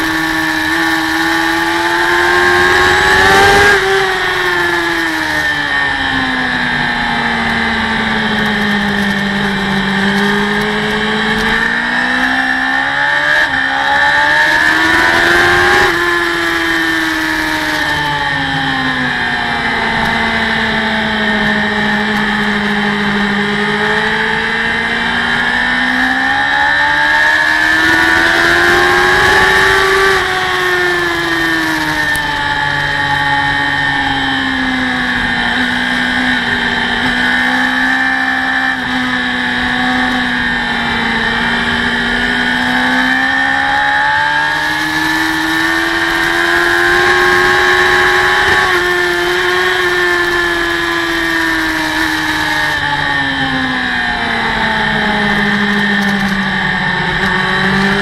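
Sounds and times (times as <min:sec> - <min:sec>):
racing motorcycle engine revving: 0:00.0 - 0:58.0.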